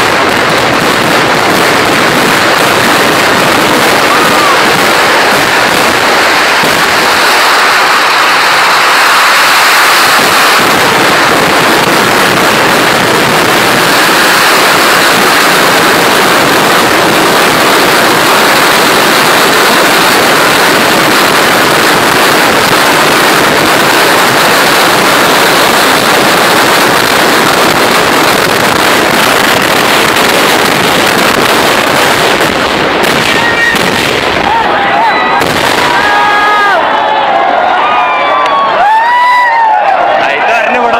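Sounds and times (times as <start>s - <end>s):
firecracker explosions barrage: 0.0s - 40.9s.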